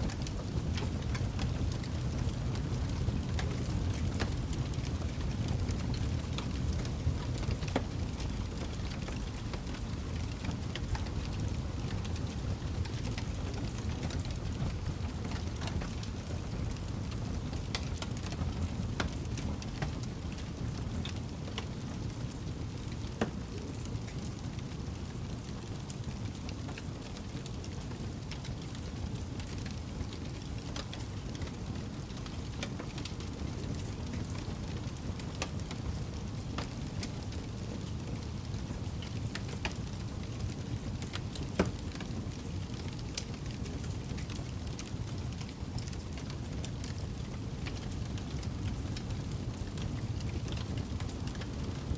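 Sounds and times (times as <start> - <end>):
campfire flames rumbling: 0.0 - 51.9
fire crackles and pops: 0.0 - 51.9.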